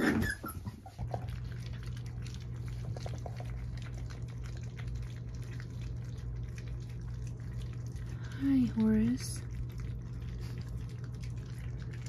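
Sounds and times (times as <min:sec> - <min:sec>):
puppies lapping and slurping: 0:00.0 - 0:12.0
steady low hum: 0:00.0 - 0:12.0.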